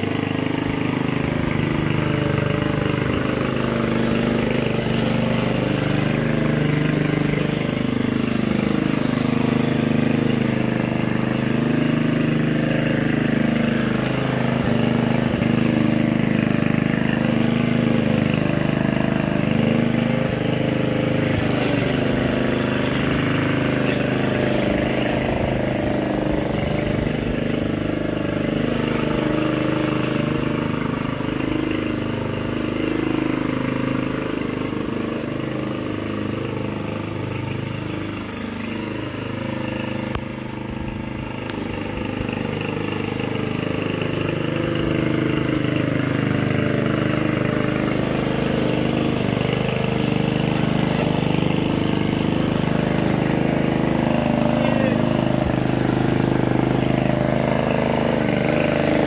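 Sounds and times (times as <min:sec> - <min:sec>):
lawn mower cutting grass: 0:00.0 - 0:59.0.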